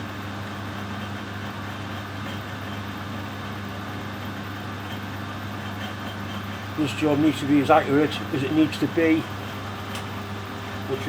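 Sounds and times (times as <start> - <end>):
metal lathe running: 0.2 - 11.0.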